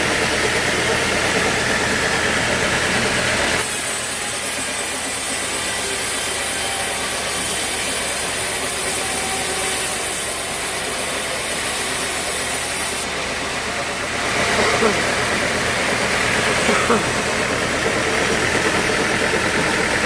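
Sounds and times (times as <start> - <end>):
saw cutting through log: 0.0 - 20.0
sawmill machine running: 0.0 - 20.0.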